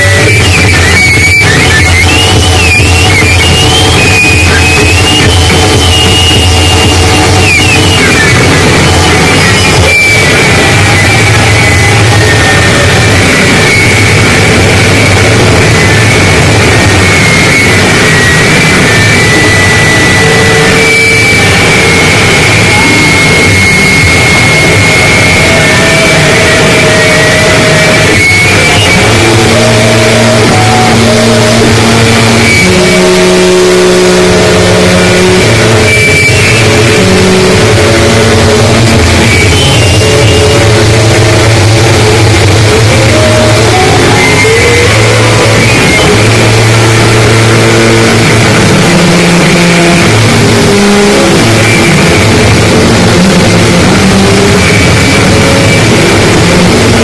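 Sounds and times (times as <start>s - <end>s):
distorted electronic noise: 0.0s - 57.0s
droning tones: 0.0s - 57.0s
high feedback whine: 0.0s - 57.0s.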